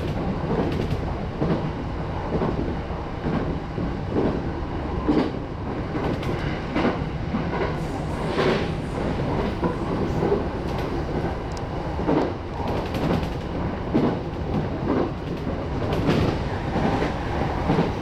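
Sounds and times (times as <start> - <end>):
electric train rolling rumble: 0.0 - 18.0.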